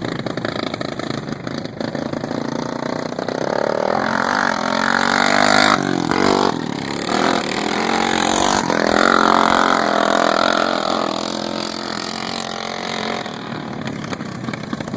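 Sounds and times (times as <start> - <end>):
lawn mower engines revving: 0.0 - 14.9.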